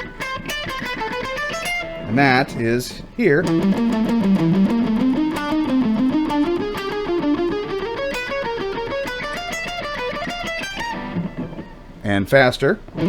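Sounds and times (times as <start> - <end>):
electric guitar lick: 0.0 - 12.0.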